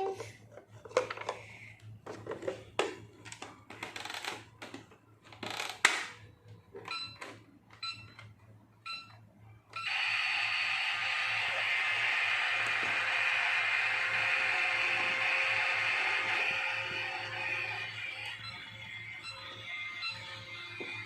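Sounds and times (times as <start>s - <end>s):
toy microwave whirring: 0.0s - 21.0s.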